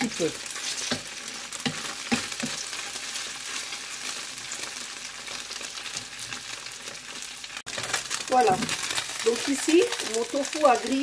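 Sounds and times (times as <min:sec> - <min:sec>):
tofu sizzling in hot oil: 0:00.0 - 0:11.0.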